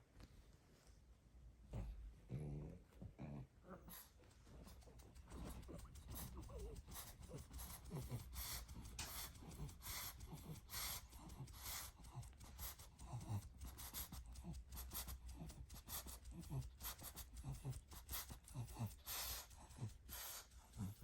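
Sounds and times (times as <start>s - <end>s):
dog snorting: 1.7s - 21.0s
dog breathing noisily: 3.9s - 21.0s.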